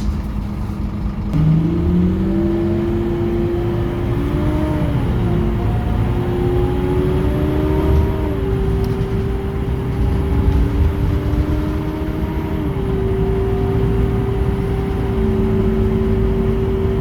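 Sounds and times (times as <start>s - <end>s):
bus diesel engine accelerating: 0.0s - 17.0s.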